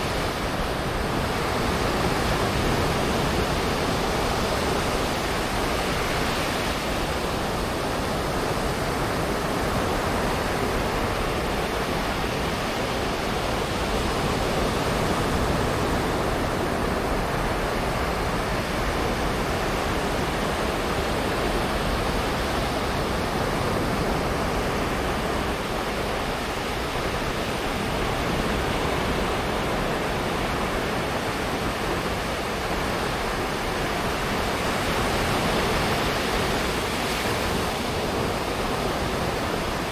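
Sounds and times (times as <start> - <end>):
ocean surf on a sandy beach: 0.0 - 39.9.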